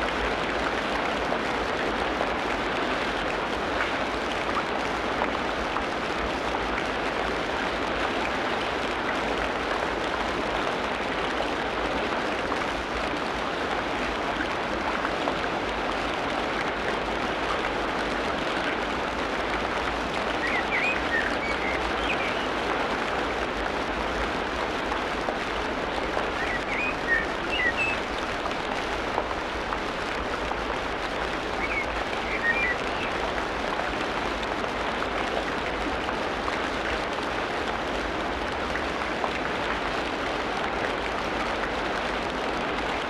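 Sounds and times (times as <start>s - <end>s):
rain falling on foliage: 0.0s - 43.0s.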